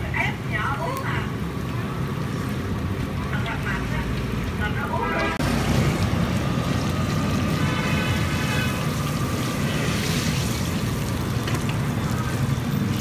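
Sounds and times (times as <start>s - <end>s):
fritters deep-frying in oil: 0.0s - 13.0s.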